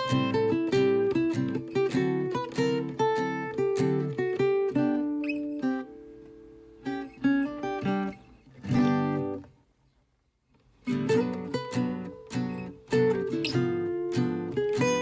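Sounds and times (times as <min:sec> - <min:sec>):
acoustic guitar playing: 0:00.0 - 0:09.7, 0:10.8 - 0:15.0.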